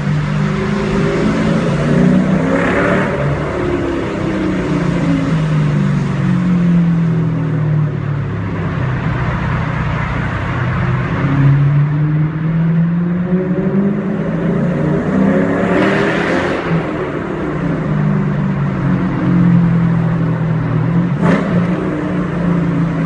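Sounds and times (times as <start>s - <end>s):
car engine through loud exhaust: 0.0s - 23.0s.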